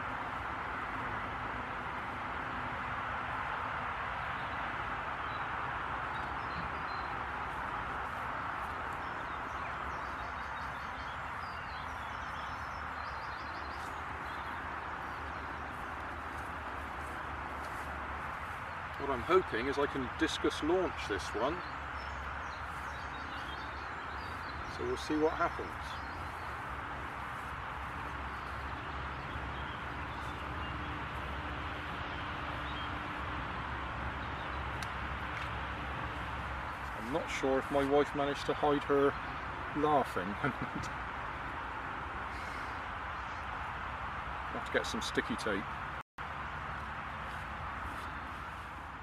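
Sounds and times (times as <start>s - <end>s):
outdoor background hiss: 0.0s - 49.0s
small birds chirping trills: 4.2s - 49.0s.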